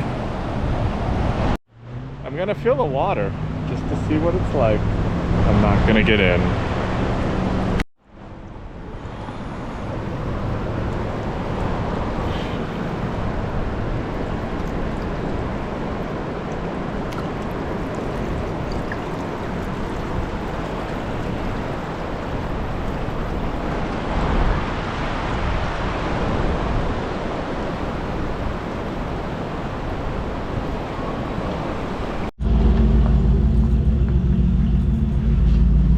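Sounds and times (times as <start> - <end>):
flowing river water: 0.0 - 32.3.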